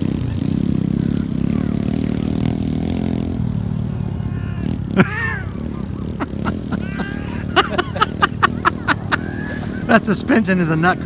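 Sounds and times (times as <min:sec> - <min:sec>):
pit bike engines running: 0:00.0 - 0:11.0.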